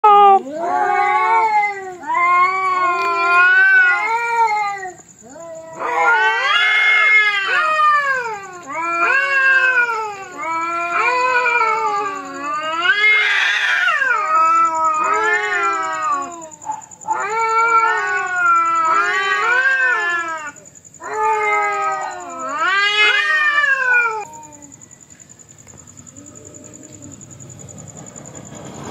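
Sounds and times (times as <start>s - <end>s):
cats yowling: 0.0s - 24.9s, 26.0s - 27.4s.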